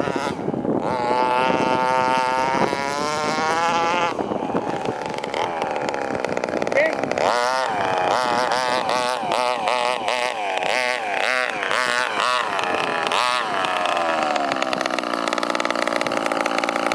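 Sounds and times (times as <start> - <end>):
two-stroke engine revving and idling: 0.0 - 16.9.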